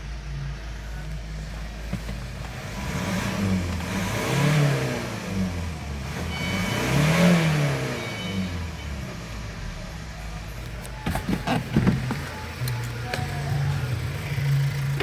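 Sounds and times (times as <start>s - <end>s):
diesel engine idling and revving: 0.0s - 15.0s.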